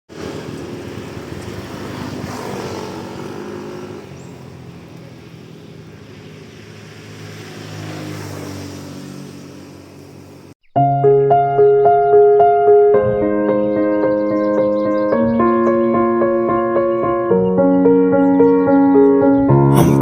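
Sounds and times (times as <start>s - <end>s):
motor vehicles passing: 0.1s - 10.6s, 12.2s - 19.0s.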